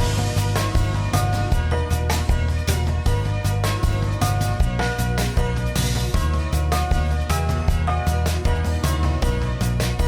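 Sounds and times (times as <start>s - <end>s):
background music with steady beat: 0.0s - 10.0s
regular drum hits: 0.0s - 10.0s
sustained bass line: 0.0s - 10.0s.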